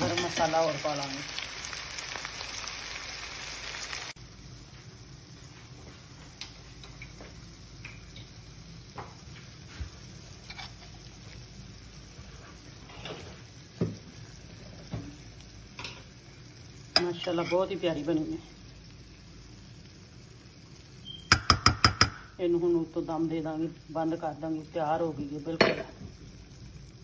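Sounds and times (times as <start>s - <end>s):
curry sizzling in a pan: 0.0s - 27.0s.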